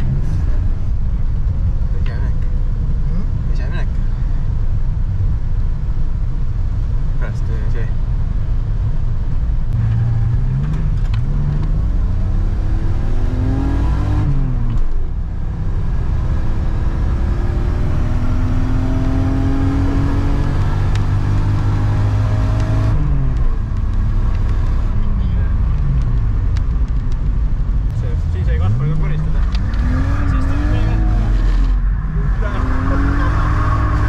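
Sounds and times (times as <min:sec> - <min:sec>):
car engine accelerating: 0:00.0 - 0:06.1, 0:08.8 - 0:34.0.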